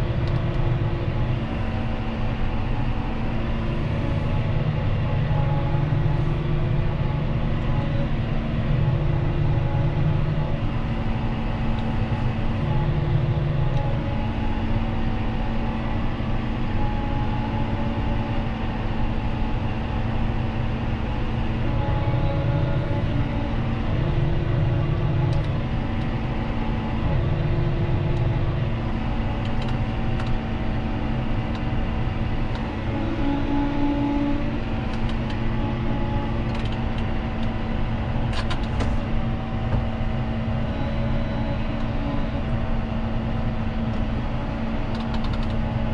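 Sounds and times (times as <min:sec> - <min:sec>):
machinery droning: 0:00.0 - 0:45.9
tractor diesel engine running: 0:00.0 - 0:45.9.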